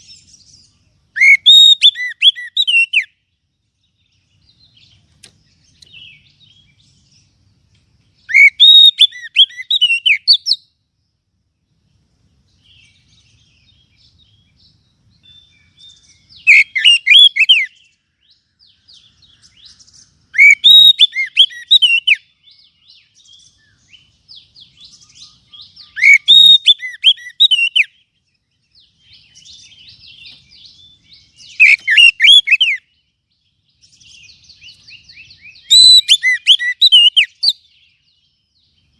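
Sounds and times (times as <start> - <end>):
bird whistled song phrases: 0.0 - 7.3, 8.1 - 10.8, 12.6 - 38.9
soft bird twittering: 0.0 - 38.9.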